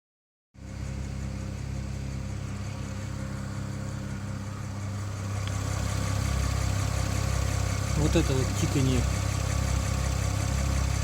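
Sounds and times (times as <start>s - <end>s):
car engine idling: 0.6s - 11.0s.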